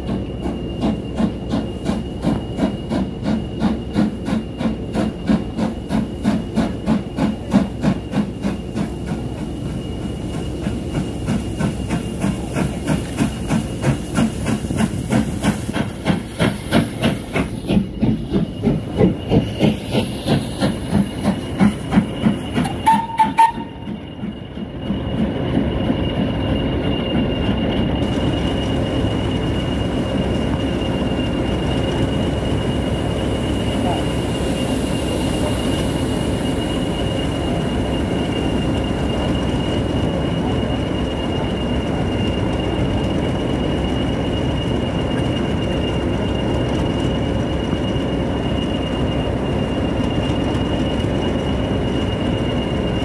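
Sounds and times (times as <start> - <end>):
steam locomotive chuffing: 0.0 - 53.0
train rolling rumble and hiss: 0.0 - 53.0.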